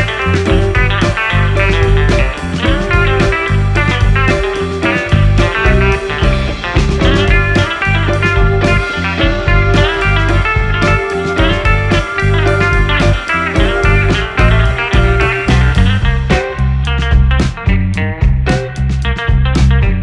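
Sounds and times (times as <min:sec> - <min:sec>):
guitar-led background music: 0:00.0 - 0:20.0.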